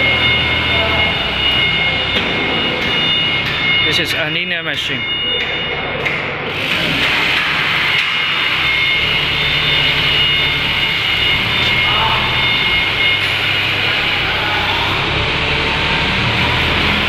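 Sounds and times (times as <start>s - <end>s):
forklift engine running: 0.0s - 4.4s, 5.1s - 17.0s
steady high whine: 0.0s - 17.0s.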